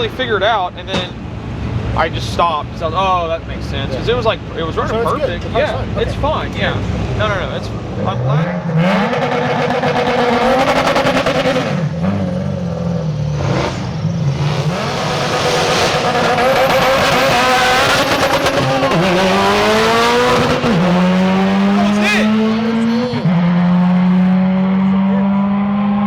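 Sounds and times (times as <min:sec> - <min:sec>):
car engine revving and accelerating: 0:03.7 - 0:26.0.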